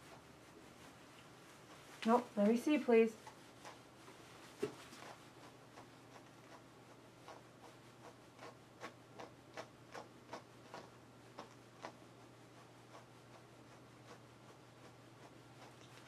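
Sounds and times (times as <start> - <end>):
brush strokes through fur: 0.0 - 16.0.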